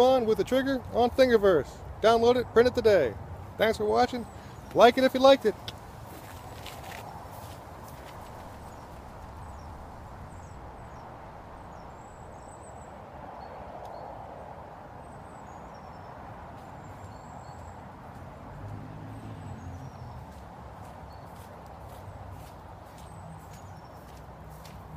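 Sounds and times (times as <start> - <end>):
small birds chirping: 3.4 - 14.1, 15.0 - 24.9.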